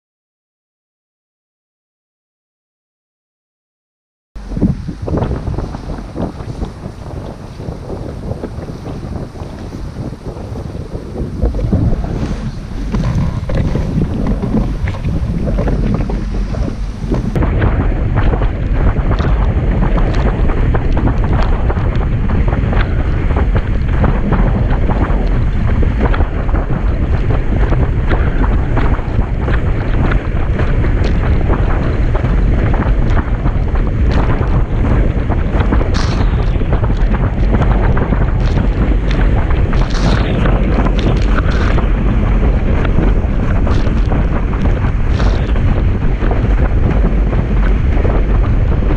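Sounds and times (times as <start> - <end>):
board knocking and splashing on waves: 4.4 - 48.9
water rushing: 4.4 - 48.9
wind buffeting microphone: 4.4 - 48.9.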